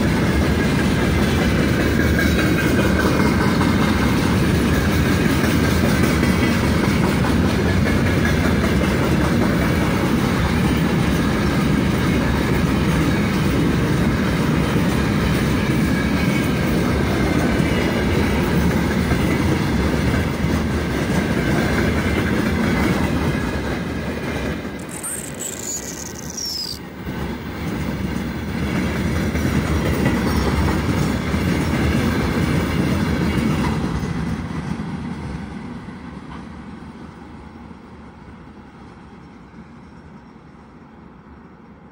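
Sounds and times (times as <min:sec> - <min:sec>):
train wheels clattering over rails: 0:00.0 - 0:35.5.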